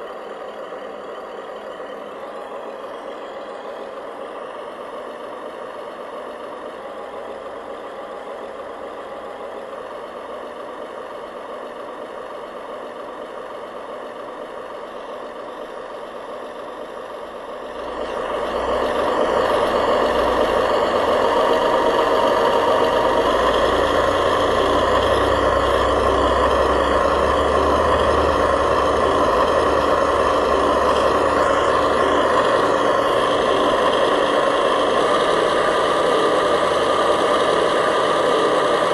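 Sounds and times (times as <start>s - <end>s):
remote-control model truck running: 0.0s - 38.9s.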